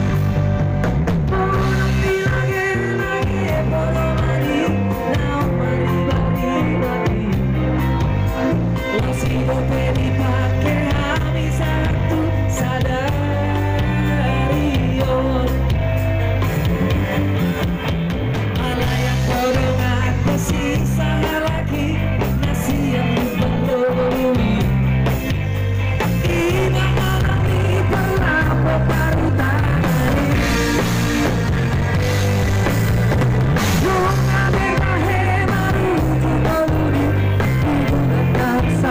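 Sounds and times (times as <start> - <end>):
bass guitar: 0.0 - 38.9
drums: 0.0 - 38.9
electric guitars: 0.0 - 38.9
person singing: 1.1 - 17.2, 18.4 - 32.6, 33.6 - 38.9.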